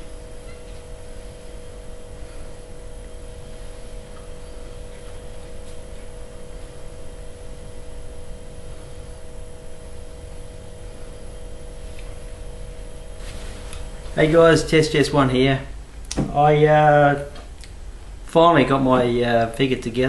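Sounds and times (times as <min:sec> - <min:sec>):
constant hiss: 0:00.0 - 0:20.0
electrical hum: 0:00.0 - 0:20.0.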